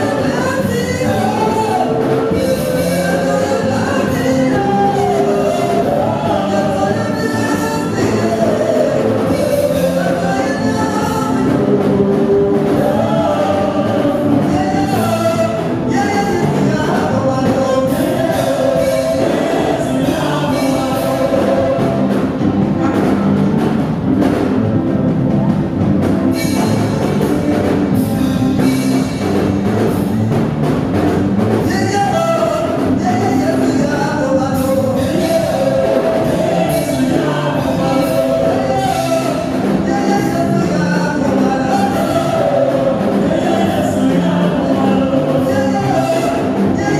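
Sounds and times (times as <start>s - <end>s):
gospel singing with accompaniment: 0.0s - 46.9s.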